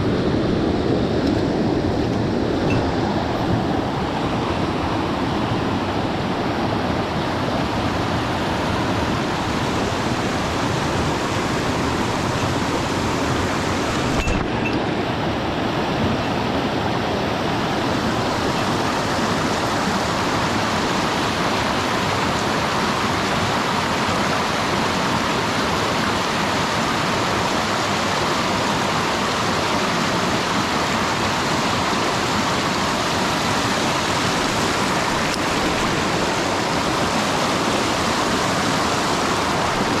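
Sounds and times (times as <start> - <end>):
stream water rushing: 0.0 - 40.0.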